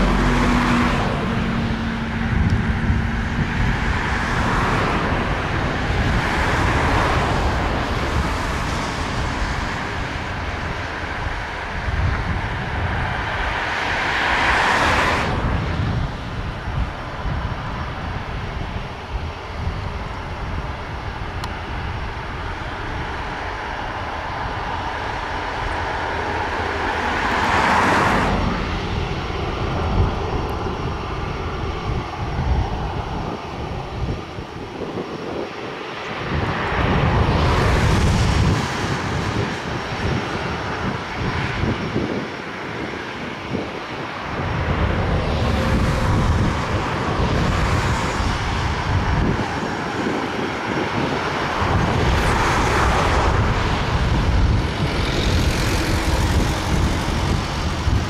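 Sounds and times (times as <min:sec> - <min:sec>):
distant jet engines running: 0:00.0 - 0:58.0.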